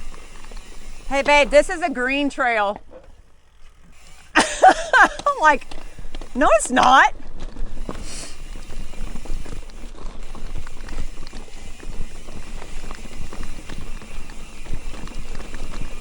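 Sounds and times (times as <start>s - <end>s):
bike rattling and knocking: 0.0s - 16.0s
tyres crunching on rocks: 0.0s - 16.0s.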